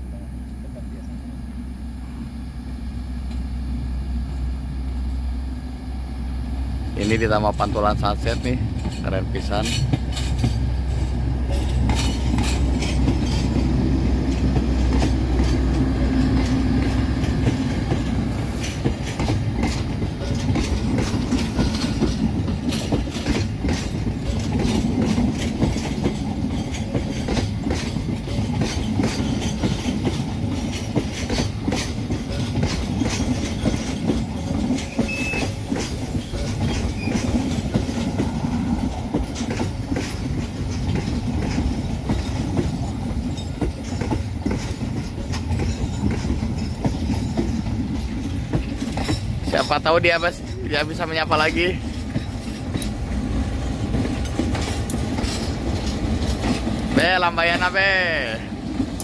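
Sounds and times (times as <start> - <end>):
train wheels clicking on rail joints: 2.0 - 5.2, 6.8 - 59.0.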